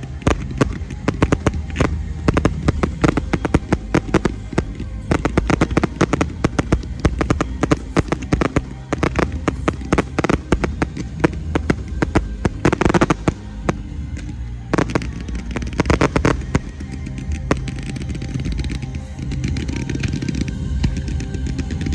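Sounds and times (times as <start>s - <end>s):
fireworks crackling and popping: 0.0s - 21.9s.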